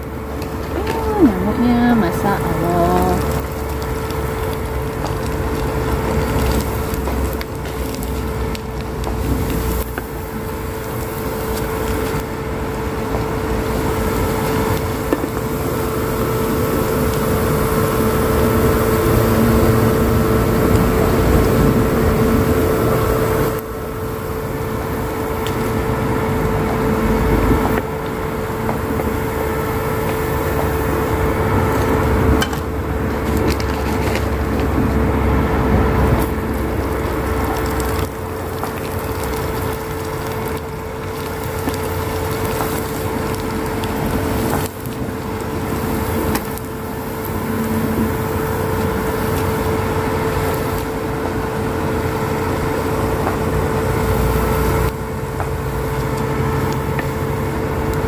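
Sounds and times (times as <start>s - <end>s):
crackers sizzling in hot oil: 0.0s - 58.0s
steady hum: 0.0s - 58.0s.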